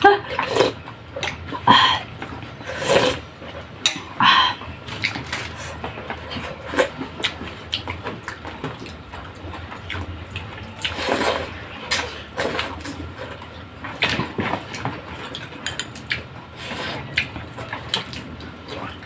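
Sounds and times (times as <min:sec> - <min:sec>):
person chewing and slurping soup: 0:00.1 - 0:19.0.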